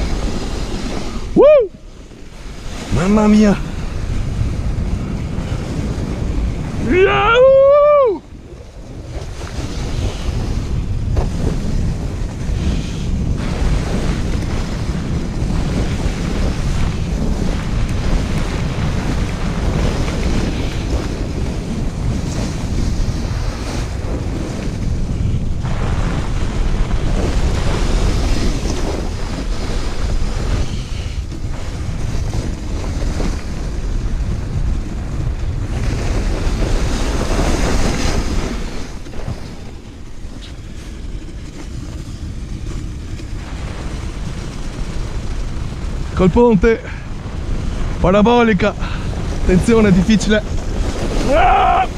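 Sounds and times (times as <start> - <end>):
sled runners scraping over snow: 0.0 - 7.0, 8.3 - 51.9
wind buffeting microphone: 0.0 - 51.9.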